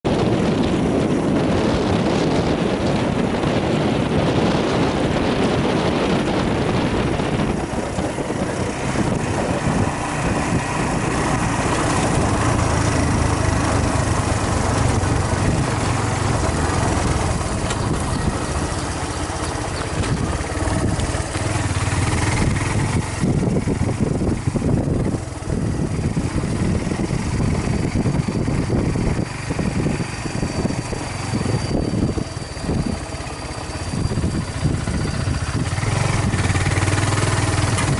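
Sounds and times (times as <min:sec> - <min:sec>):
wind on microphone: 0:00.0 - 0:37.9
motorbike engine running: 0:00.1 - 0:37.9.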